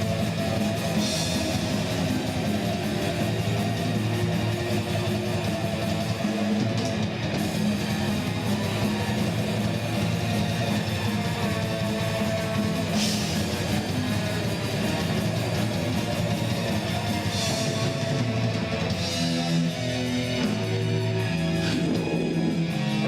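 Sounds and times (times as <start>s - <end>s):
distorted electric guitars: 0.0s - 23.0s
drums and cymbal crashes: 0.0s - 23.0s.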